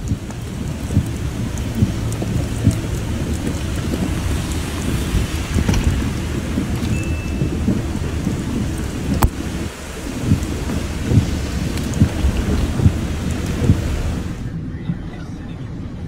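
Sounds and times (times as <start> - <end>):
heavy rain: 0.0 - 16.0
low storm rumble: 0.0 - 16.0.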